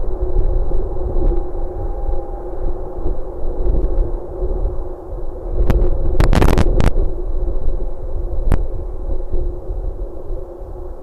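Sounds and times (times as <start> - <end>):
steady electrical hum: 0.0 - 11.0
wind rumble: 0.0 - 11.0.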